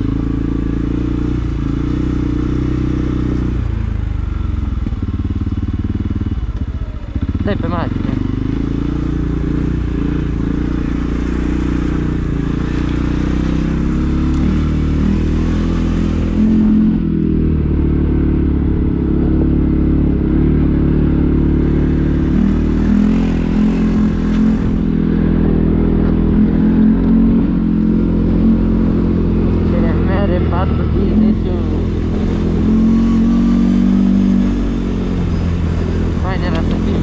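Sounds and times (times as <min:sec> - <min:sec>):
quad bike engine running: 0:00.0 - 0:37.0.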